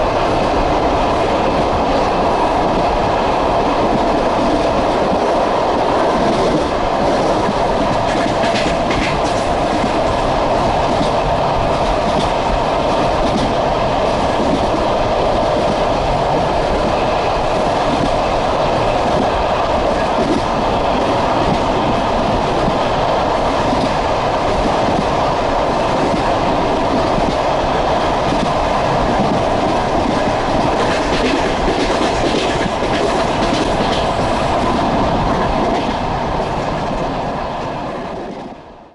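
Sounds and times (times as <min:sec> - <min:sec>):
train carriage rumble: 0:00.0 - 0:38.9.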